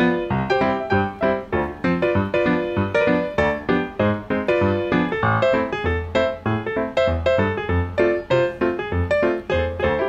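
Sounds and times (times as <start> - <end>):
quick piano run: 0.0 - 10.0.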